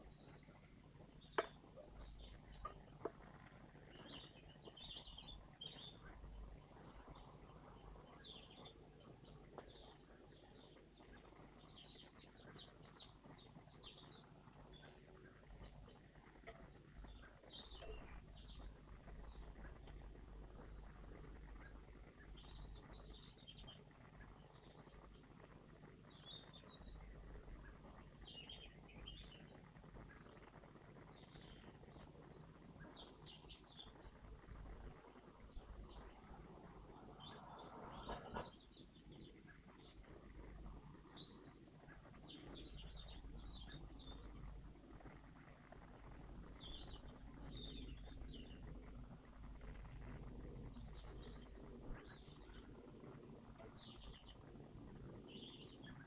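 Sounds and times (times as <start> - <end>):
faint songbird chirps: 0.0 - 56.0
low background rumble: 0.0 - 56.0.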